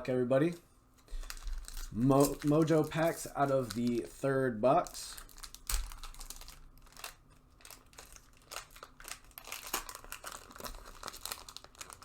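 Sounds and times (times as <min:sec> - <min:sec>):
foil wrapper crinkling and tearing: 0:01.1 - 0:04.2, 0:04.8 - 0:12.0.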